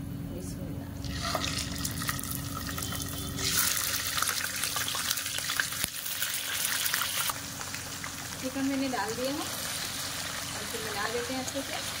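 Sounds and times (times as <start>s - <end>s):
chicken sizzling in hot oil: 1.0s - 12.0s.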